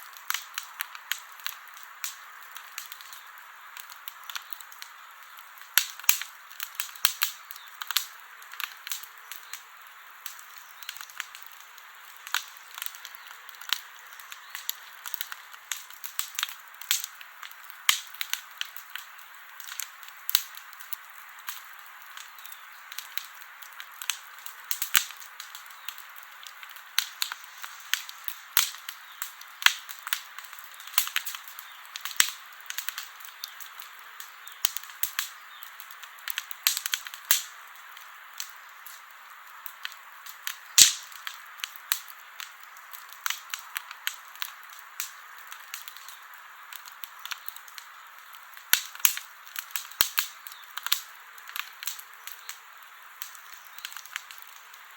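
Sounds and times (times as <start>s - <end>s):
campfire crackling: 0.0s - 54.9s
soft steady hiss: 0.0s - 54.9s.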